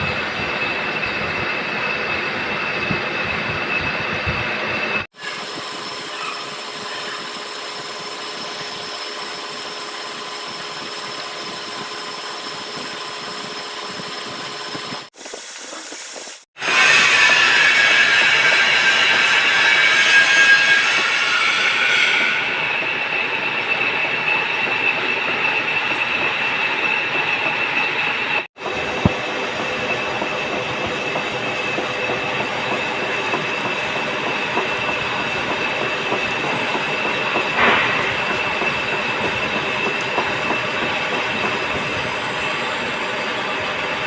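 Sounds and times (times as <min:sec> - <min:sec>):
lathe turning metal with whine: 0:00.0 - 0:15.1, 0:16.6 - 0:44.0.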